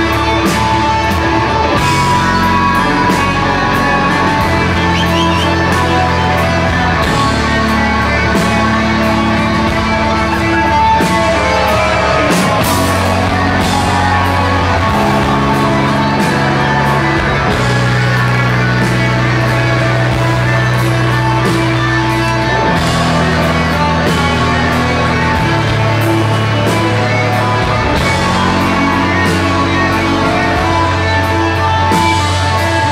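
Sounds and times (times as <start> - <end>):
bass guitar chords: 0.0 - 32.9
distorted electric guitars: 0.0 - 32.9
heavy rock band playing: 0.0 - 32.9.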